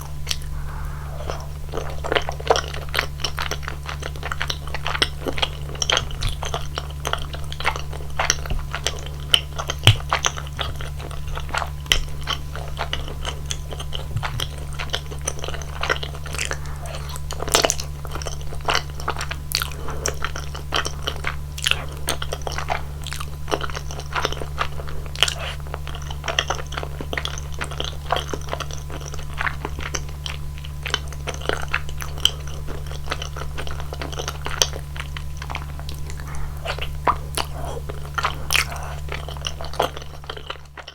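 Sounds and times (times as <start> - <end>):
steady low hum: 0.0 - 40.9
wet chewing and mouth smacks: 5.8 - 40.9.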